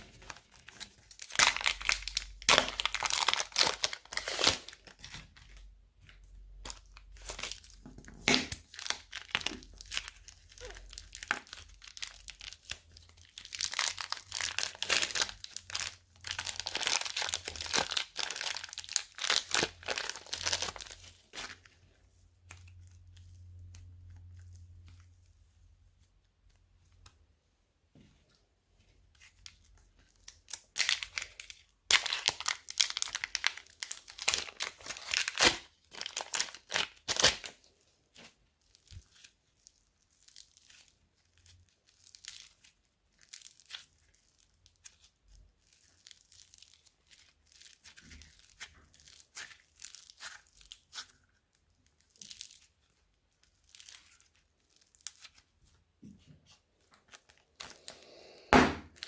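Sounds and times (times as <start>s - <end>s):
plastic bags crinkling with slime: 0.0s - 27.2s, 28.3s - 59.0s.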